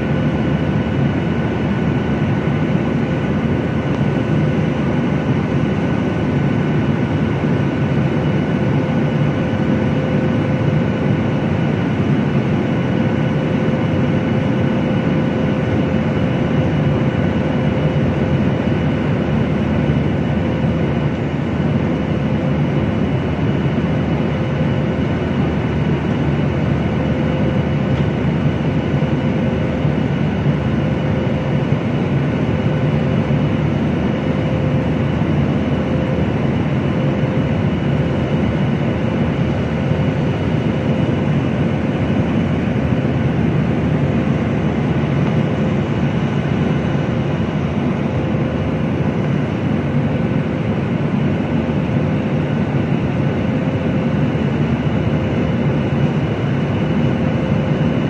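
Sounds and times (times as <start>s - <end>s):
jet engine cabin rush: 0.0s - 58.0s.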